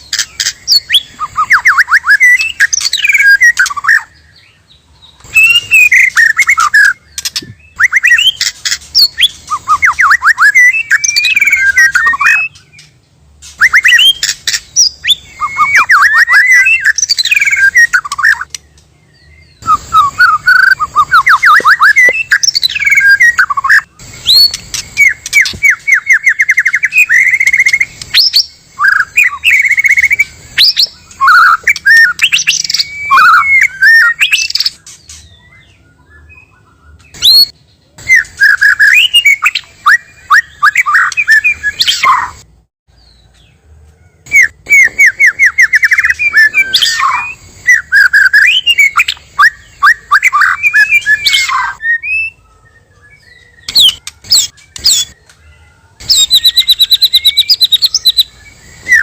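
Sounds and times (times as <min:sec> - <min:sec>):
bird whistled song: 0:00.0 - 0:59.0.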